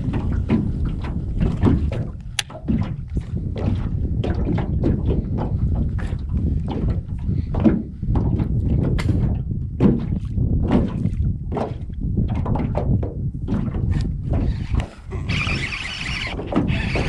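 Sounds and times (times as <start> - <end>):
waves slapping against a boat: 0.0 - 17.0
wind rumble on microphone: 0.0 - 17.0.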